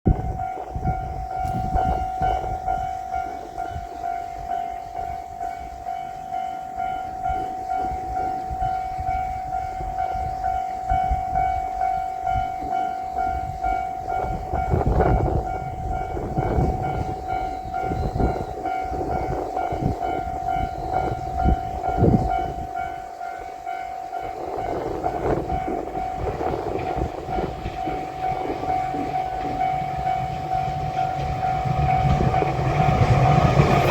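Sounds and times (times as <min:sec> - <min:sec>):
diesel train engine rumble: 0:00.1 - 0:33.9.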